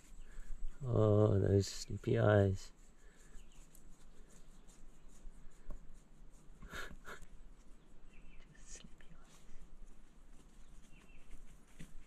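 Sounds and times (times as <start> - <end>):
hand rubbing animal fur: 0.0 - 12.0.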